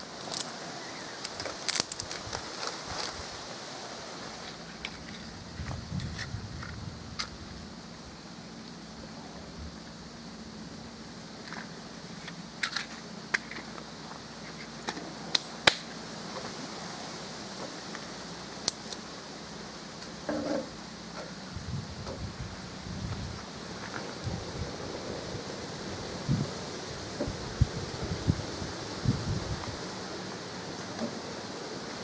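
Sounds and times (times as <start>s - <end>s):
kindling crackling as it burns: 0.0s - 32.0s.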